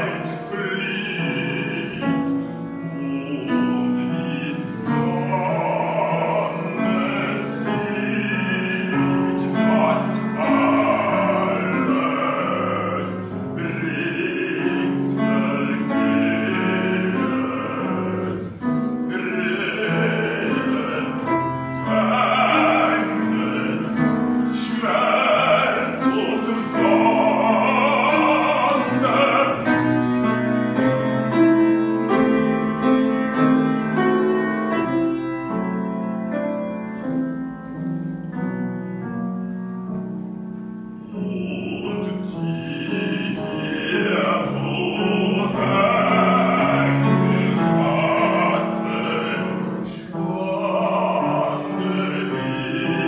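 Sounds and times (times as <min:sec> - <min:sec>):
bass-baritone singing: 0:00.0 - 0:36.8, 0:39.4 - 0:53.0
grand piano: 0:00.0 - 0:53.0.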